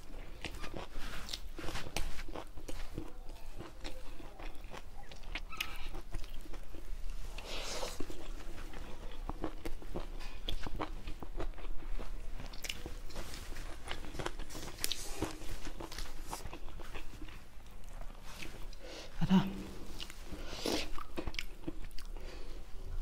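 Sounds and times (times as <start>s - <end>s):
man chewing and crunching food: 0.0s - 23.0s.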